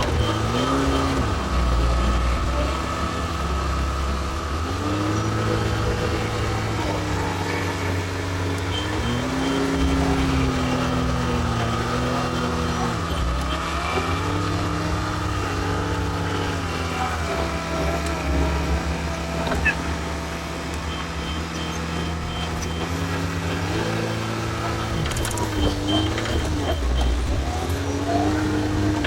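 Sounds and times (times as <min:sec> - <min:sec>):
diesel engine under load: 0:00.0 - 0:29.0
hydraulic whine: 0:00.0 - 0:29.0.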